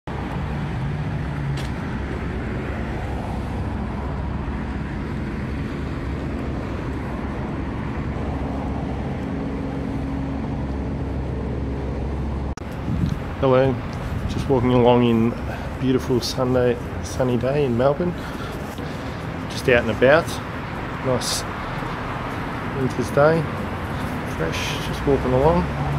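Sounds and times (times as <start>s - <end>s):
city road traffic: 0.0s - 25.9s.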